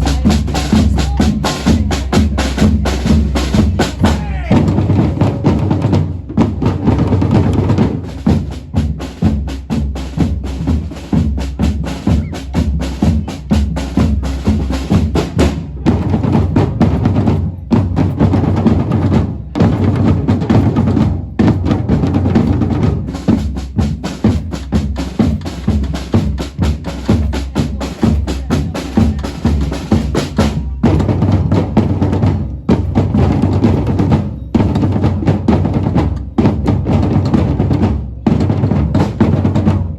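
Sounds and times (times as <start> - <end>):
drums beating driving rhythm: 0.0 - 39.9.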